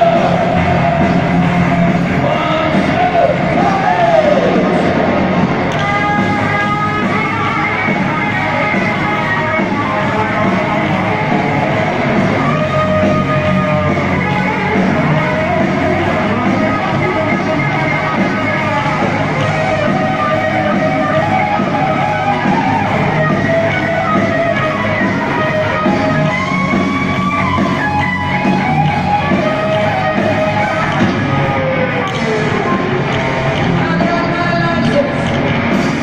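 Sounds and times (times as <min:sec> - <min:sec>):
heavy metal band playing live: 0:00.0 - 0:36.0.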